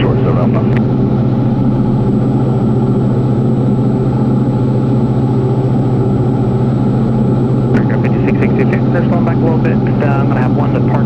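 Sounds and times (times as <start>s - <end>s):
aircraft engine drone in cockpit: 0.0s - 11.0s.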